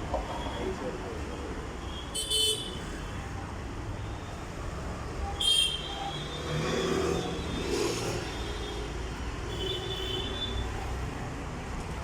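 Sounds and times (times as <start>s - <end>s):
road traffic rumbling: 0.0s - 12.0s.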